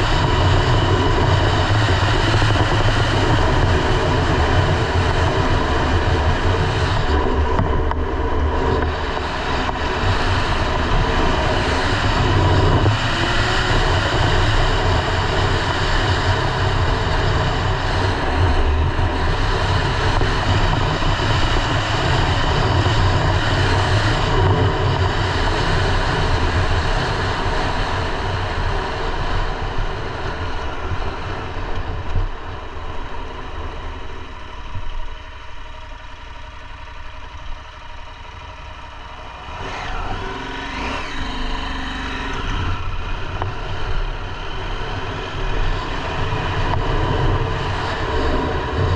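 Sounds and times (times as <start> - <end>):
wind noise: 0.0 - 35.2, 39.2 - 48.9
motorcycle engine running: 0.0 - 48.9.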